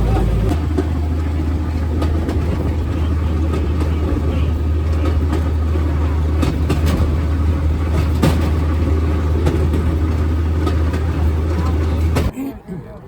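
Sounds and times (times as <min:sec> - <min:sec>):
rail speeder rumbling on track: 0:00.0 - 0:12.3.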